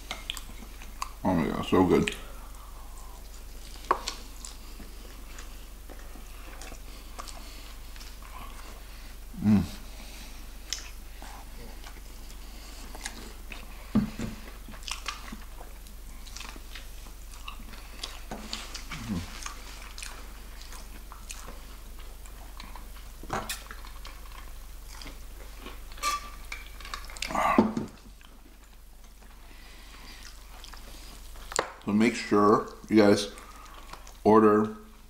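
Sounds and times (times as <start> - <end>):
chewing fried chicken: 0.0 - 35.0.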